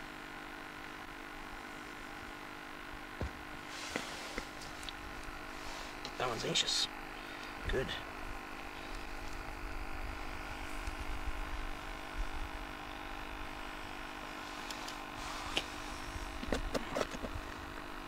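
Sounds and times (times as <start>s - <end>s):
steady hum of held tones: 0.0s - 18.0s.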